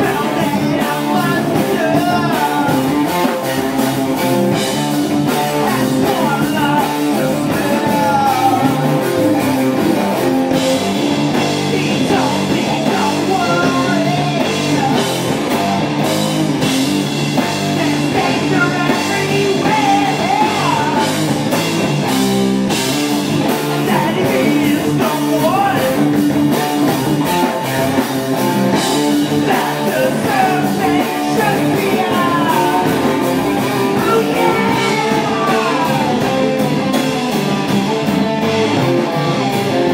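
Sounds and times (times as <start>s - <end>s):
drum kit: 0.0s - 39.9s
electric bass: 0.0s - 39.9s
electric guitars: 0.0s - 39.9s.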